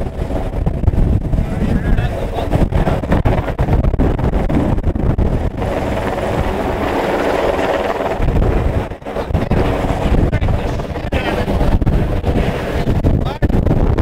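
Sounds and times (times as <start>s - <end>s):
helicopter rotor and engine: 0.0s - 13.6s
wind buffeting microphone: 0.0s - 14.0s.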